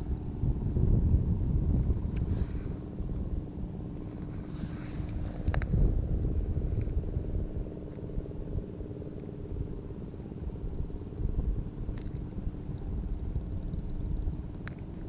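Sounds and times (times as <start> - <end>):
handling and wind rumble: 0.0 - 15.0
low mechanical hum: 0.0 - 15.0.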